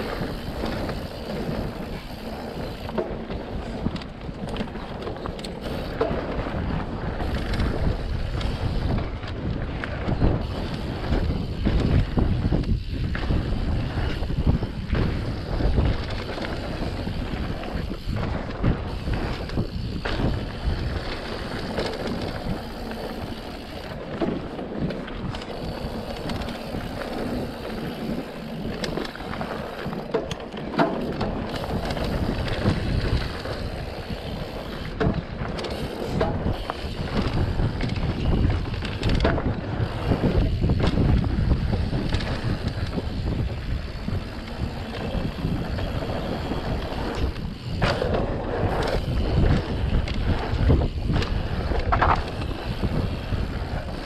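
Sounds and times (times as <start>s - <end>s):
bike clicks and rattles: 0.0s - 54.0s
tyres rolling on dirt trail: 0.0s - 54.0s
wind buffeting microphone: 0.0s - 54.0s.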